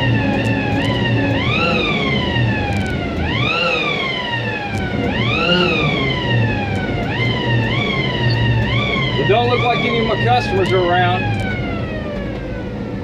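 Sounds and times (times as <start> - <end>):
truck engine running: 0.0 - 13.0
wailing siren: 0.0 - 13.0.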